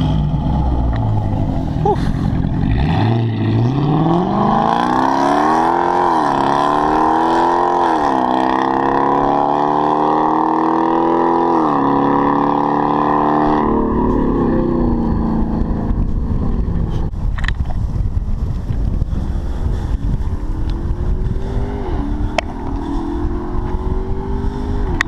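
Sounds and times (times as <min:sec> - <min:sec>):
car engine accelerating: 0:00.0 - 0:17.1, 0:19.2 - 0:25.0.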